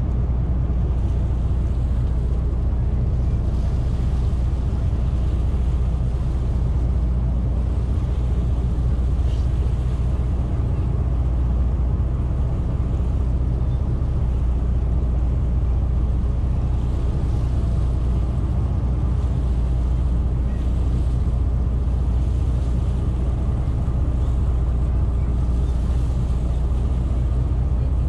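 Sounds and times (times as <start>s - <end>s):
boat engines droning: 0.0s - 28.0s.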